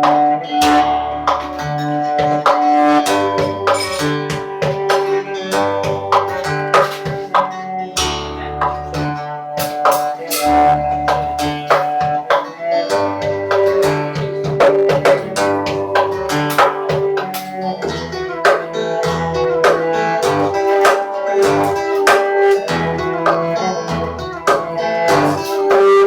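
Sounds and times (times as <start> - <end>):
acoustic guitar picking and strumming: 0.0 - 26.0
cello long held notes: 0.0 - 26.0.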